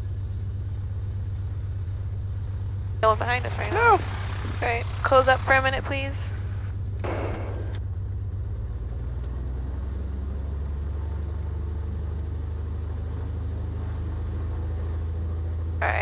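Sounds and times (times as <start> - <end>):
aircraft engine idling: 0.0 - 16.0.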